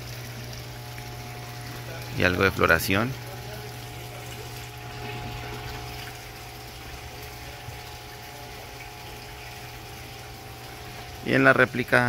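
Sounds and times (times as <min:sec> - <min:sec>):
running water: 0:00.0 - 0:12.0
water pump humming: 0:00.0 - 0:12.0.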